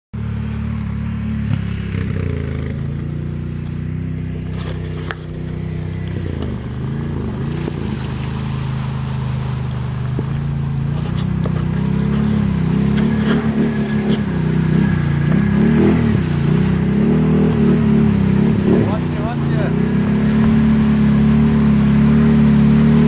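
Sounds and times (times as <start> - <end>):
quad engine running: 0.2 - 23.0.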